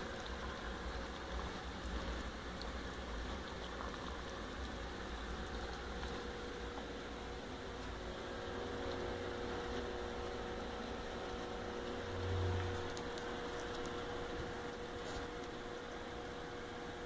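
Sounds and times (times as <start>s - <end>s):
small fan humming: 0.0s - 17.0s.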